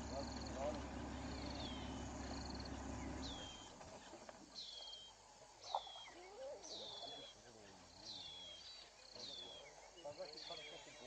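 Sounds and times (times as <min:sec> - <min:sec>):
low steady hum: 0:00.0 - 0:09.9.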